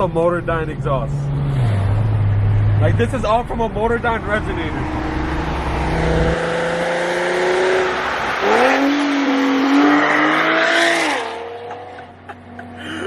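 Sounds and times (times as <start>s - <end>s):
car engine accelerating hard: 0.5s - 12.1s.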